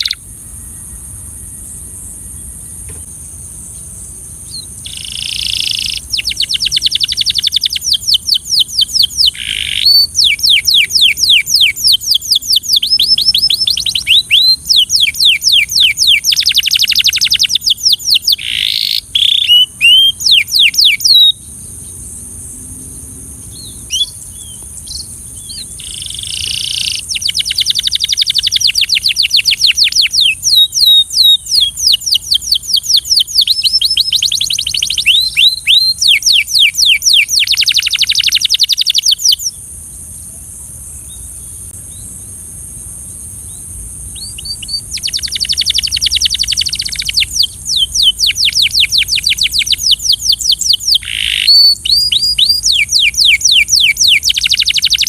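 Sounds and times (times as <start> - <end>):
canary singing trilled rolls: 0.0 - 22.2, 23.4 - 39.6, 43.4 - 55.0.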